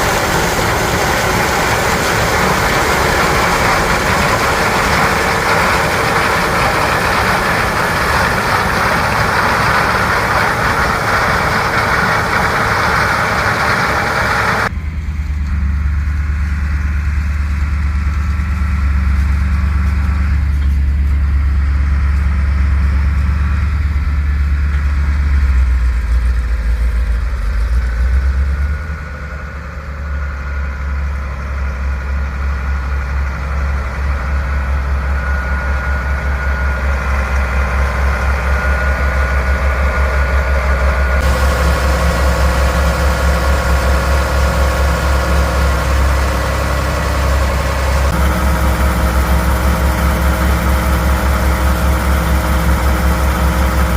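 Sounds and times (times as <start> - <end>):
deep engine drone: 0.0 - 53.9
harvest machinery running: 0.0 - 53.9.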